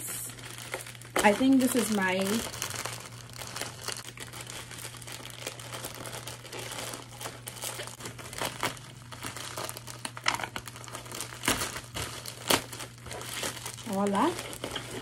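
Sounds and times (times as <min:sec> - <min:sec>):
plastic mailer crinkling and tearing: 0:00.1 - 0:15.0.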